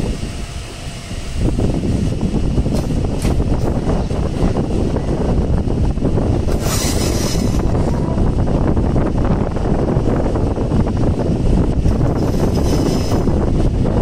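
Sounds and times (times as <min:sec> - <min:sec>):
train wheels rumbling: 0:00.0 - 0:14.0
wind on microphone: 0:00.0 - 0:14.0.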